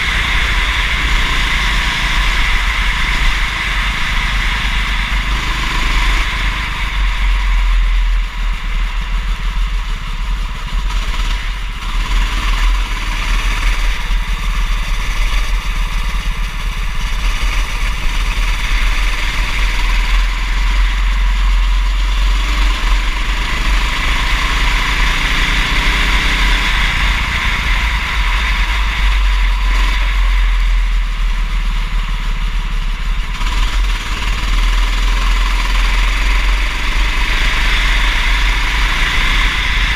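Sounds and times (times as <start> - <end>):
racing kart engine: 0.0 - 39.9
steady low rumble: 0.0 - 39.9.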